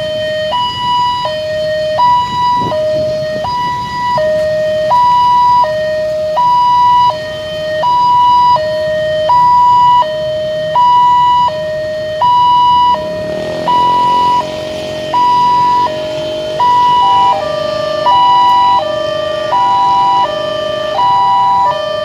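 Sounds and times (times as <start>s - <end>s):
level crossing two-tone alarm: 0.0s - 22.0s.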